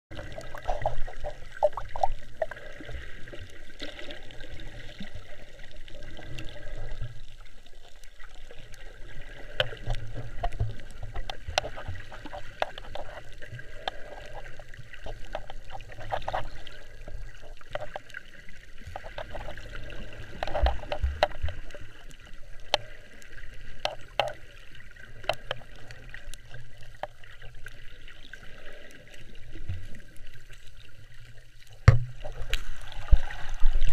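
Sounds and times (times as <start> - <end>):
water sloshing and bubbling: 0.1 - 33.9.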